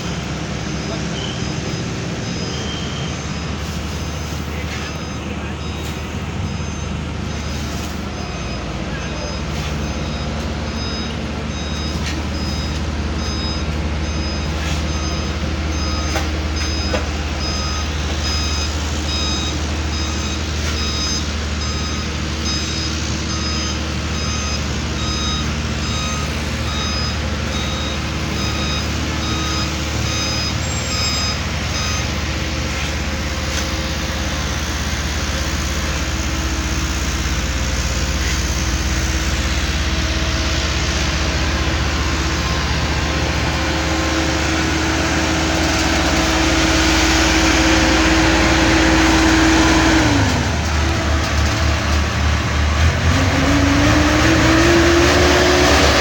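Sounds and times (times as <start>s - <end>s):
heavy machine engine running: 0.0s - 56.0s
reversing alarm beeping: 0.0s - 56.0s.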